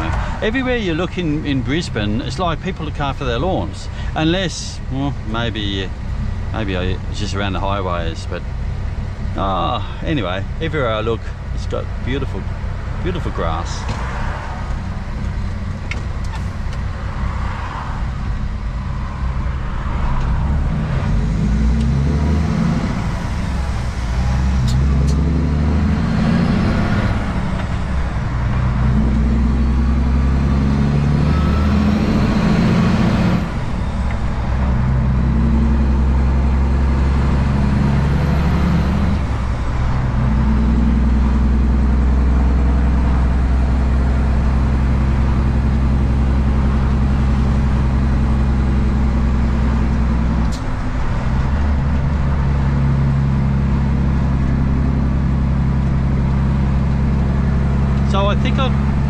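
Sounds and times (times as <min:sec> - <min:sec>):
truck diesel engine revving: 0:00.0 - 0:59.0.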